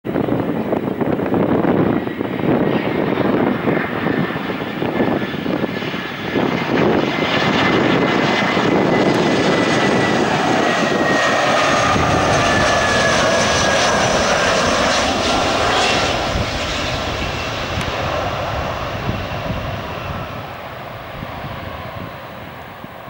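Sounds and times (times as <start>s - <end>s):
jet engines on approach: 0.1s - 23.0s.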